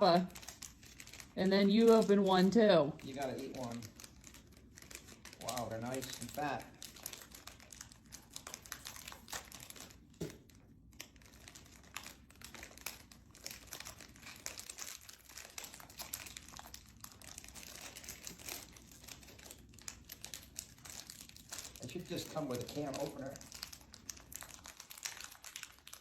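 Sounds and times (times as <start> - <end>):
wrappers crinkling: 0.0 - 26.0.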